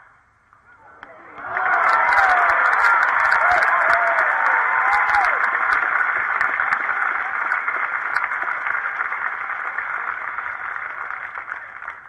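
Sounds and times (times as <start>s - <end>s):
crowd applause: 0.9s - 12.0s.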